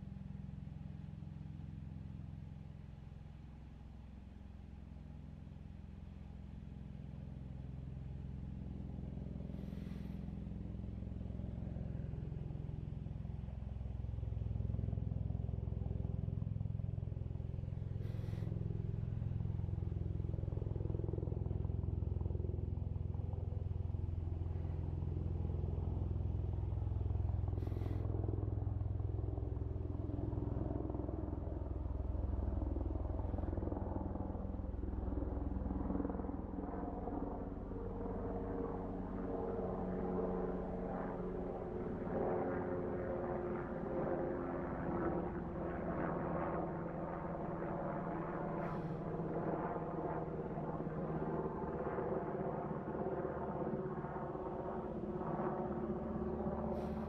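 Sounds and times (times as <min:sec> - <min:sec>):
low mechanical rumble with hum: 0:00.0 - 0:52.0, 0:52.8 - 0:57.0.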